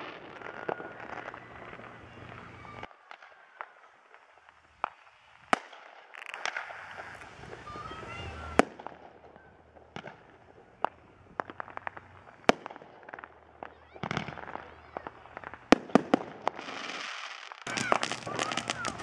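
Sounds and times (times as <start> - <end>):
distant fireworks bangs and pops: 0.0 - 19.0
fireworks hissing: 3.6 - 19.0.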